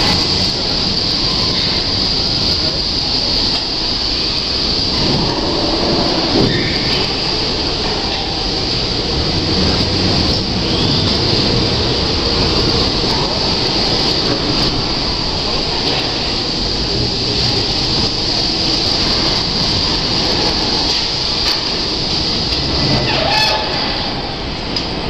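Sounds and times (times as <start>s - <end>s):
constant high hiss: 0.0s - 25.0s
mechanical rumble: 0.0s - 25.0s.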